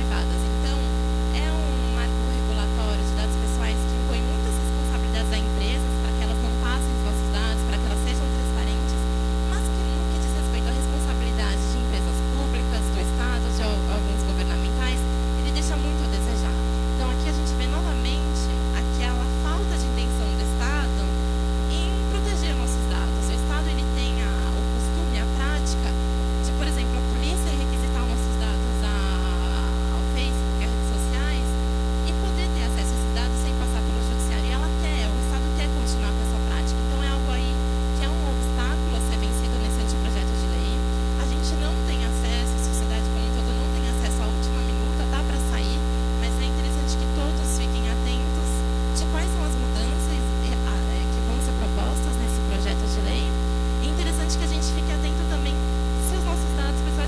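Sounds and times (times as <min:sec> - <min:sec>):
loud electrical hum: 0:00.0 - 0:57.0.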